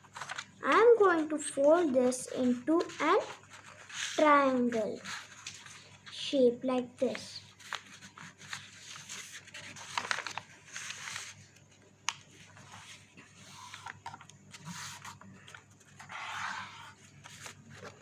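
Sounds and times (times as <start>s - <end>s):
paper being folded and creased: 0.0s - 18.0s
paper rustling: 0.0s - 18.0s.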